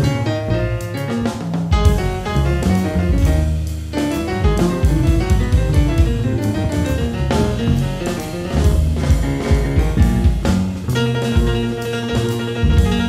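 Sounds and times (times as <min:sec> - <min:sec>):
drum kit with cymbals: 0:00.0 - 0:13.0
piano: 0:00.0 - 0:13.0
upright bass: 0:00.0 - 0:13.0.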